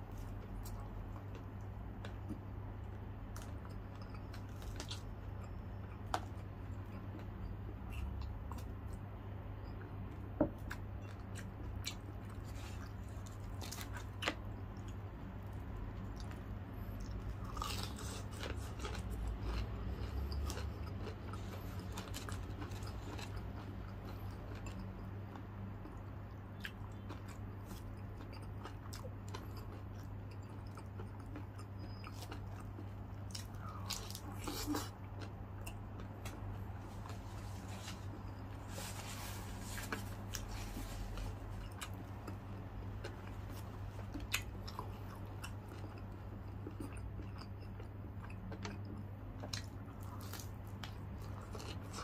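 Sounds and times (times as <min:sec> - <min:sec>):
chewing crispy fried food: 0:00.0 - 0:09.1, 0:09.7 - 0:52.0
steady low hum: 0:00.0 - 0:52.0.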